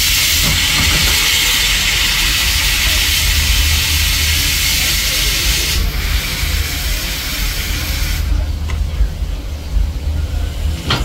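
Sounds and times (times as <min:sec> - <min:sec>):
steam hissing: 0:00.0 - 0:09.0
low rumble: 0:00.0 - 0:11.0.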